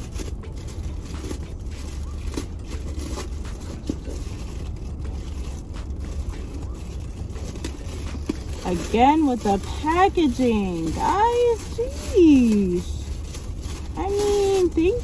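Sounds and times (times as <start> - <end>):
plastic packaging crinkling: 0.0 - 15.0
steady low hum: 0.0 - 15.0.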